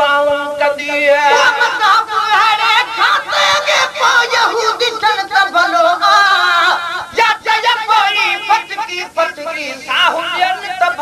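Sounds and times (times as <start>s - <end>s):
person singing ornamented lines: 0.6s - 11.0s.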